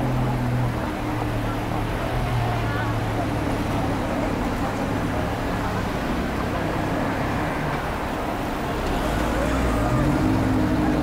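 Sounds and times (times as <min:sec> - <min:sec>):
city street traffic: 0:00.0 - 0:11.0
vehicle engines idling: 0:00.0 - 0:11.0.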